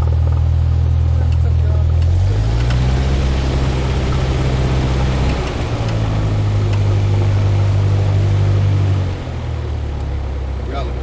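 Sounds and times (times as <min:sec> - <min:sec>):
light aircraft engine and propeller: 0:00.0 - 0:11.0.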